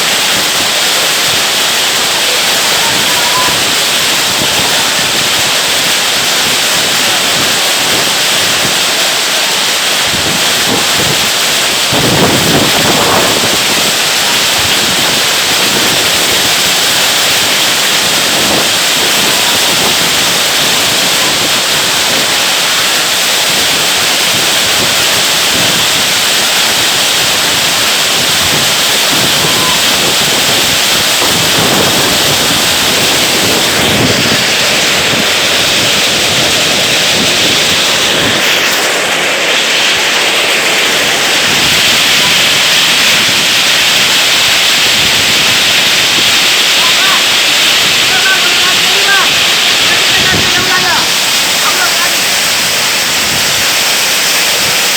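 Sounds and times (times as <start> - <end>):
hail and rain falling: 0.0 - 54.9.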